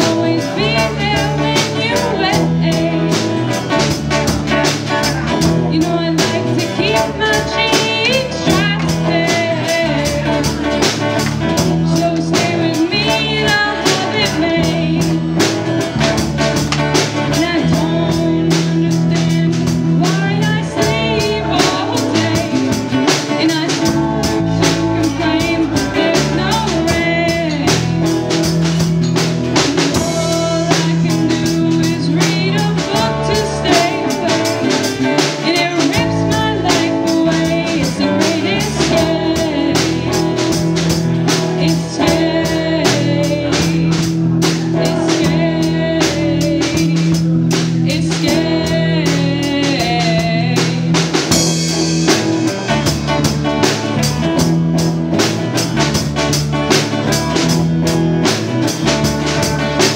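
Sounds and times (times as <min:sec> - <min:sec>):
drum kit beat: 0:00.0 - 0:59.9
electric guitars: 0:00.0 - 0:59.9.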